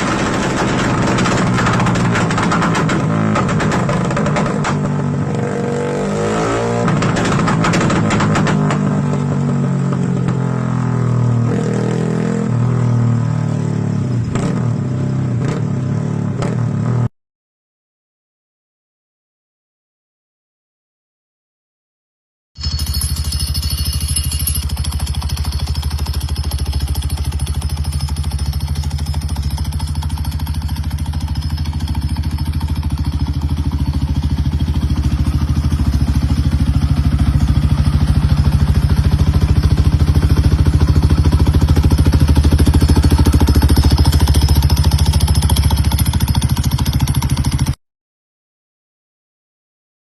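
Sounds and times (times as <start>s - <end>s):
motorcycle engine running: 0.0s - 17.1s, 22.6s - 47.8s.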